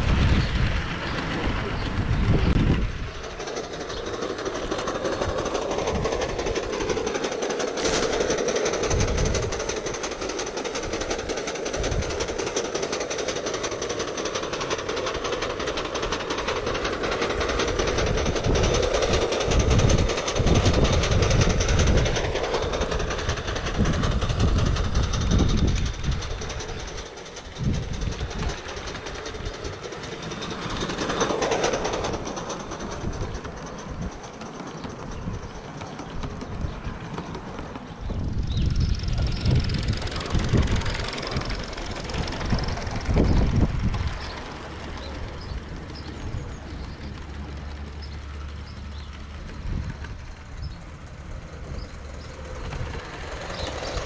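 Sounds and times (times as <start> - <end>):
model train wheels rattling: 0.0 - 54.0.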